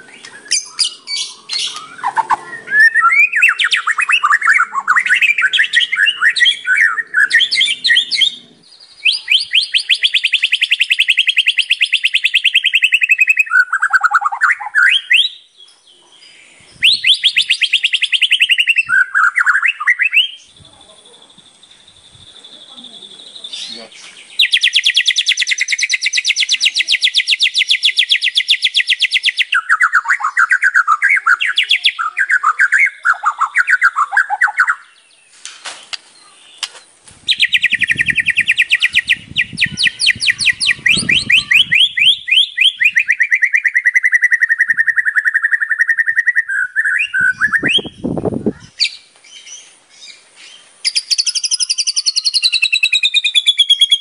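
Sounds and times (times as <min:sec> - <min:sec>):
songbird singing trills and whistles: 0:00.0 - 0:54.0.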